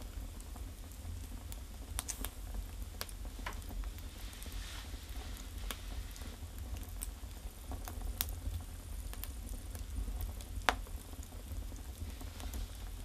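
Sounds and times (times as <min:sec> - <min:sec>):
firewood crackling: 0:00.0 - 0:13.0
low steady rumble: 0:00.0 - 0:13.0
sharp pops of fire: 0:01.4 - 0:04.5, 0:05.1 - 0:13.0.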